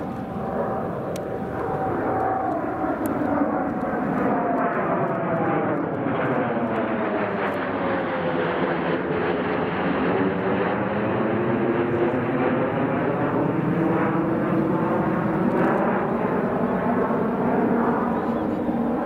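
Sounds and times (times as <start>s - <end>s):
jets flying over: 0.0s - 19.0s.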